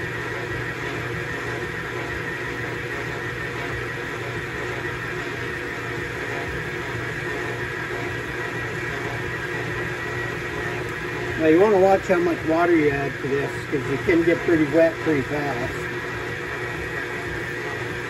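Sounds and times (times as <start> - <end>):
stand mixer motor hum: 0.0 - 18.0.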